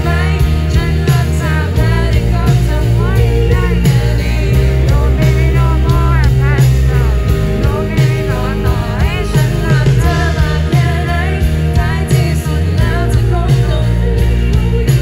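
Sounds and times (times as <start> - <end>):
live rock band playing: 0.0 - 15.0
woman singing lead: 0.0 - 15.0.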